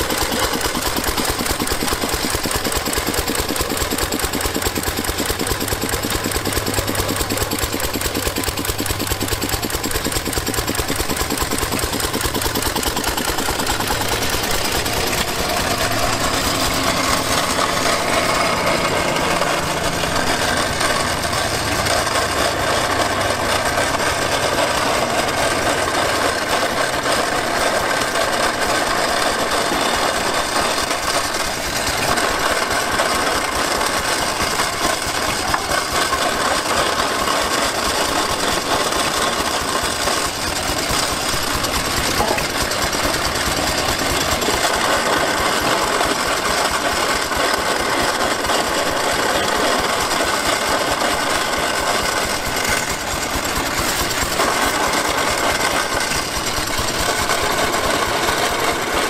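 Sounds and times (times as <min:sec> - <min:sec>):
gas engine running: 0:00.0 - 0:59.0
grist mill grinding corn: 0:00.0 - 0:59.0.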